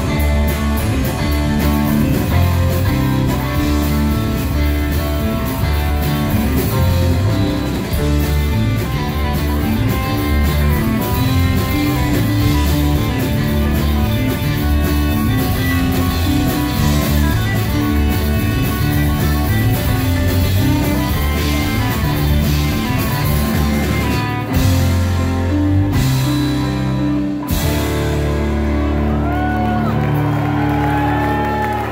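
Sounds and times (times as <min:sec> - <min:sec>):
rock band playing live: 0:00.0 - 0:31.9.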